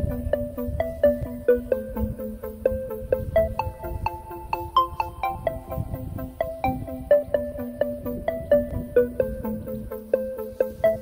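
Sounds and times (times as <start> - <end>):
light melody over steady beat: 0.0 - 11.0.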